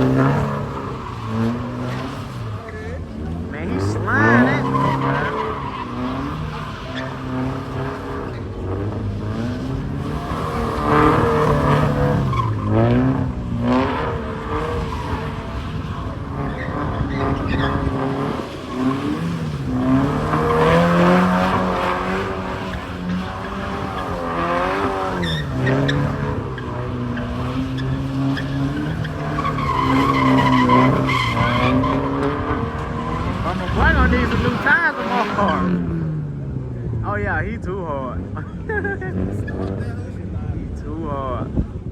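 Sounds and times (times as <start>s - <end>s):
car engine revving: 0.0s - 41.9s
tires squealing: 0.0s - 41.9s.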